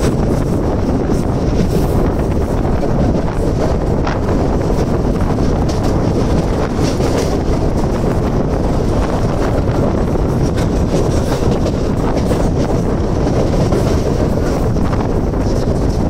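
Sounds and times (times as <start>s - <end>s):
train wheels on rails: 0.0s - 16.0s
wind buffeting microphone: 0.0s - 16.0s.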